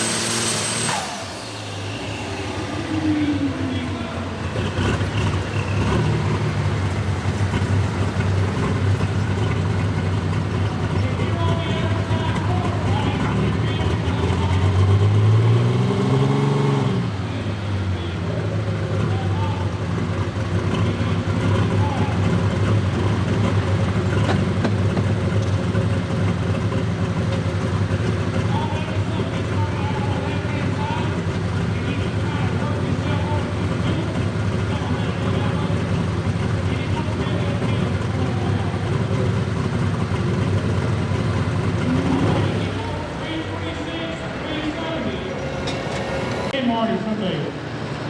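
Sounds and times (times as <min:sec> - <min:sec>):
tractor engine at high revs: 0:00.0 - 0:46.6.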